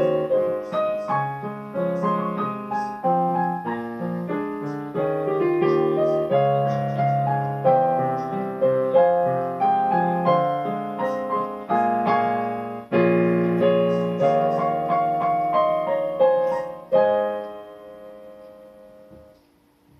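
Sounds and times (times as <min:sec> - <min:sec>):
piano chords: 0:00.0 - 0:19.9.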